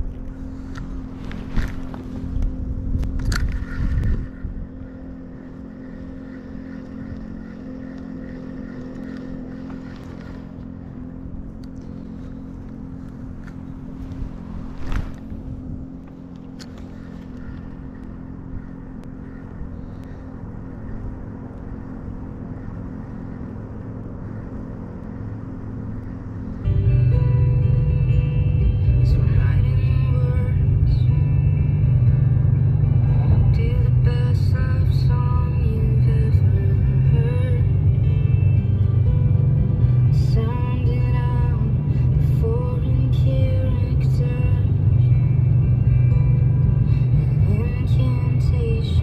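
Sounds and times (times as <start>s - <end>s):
loud low rumble: 0.0s - 49.0s
steady motor hum: 0.0s - 49.0s.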